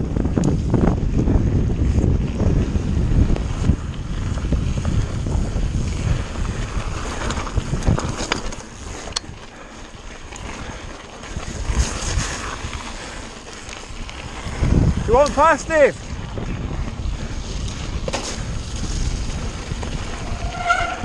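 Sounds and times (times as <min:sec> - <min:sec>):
bike rattling over rough trail: 0:00.0 - 0:21.0
wind rushing over microphone: 0:00.0 - 0:21.0.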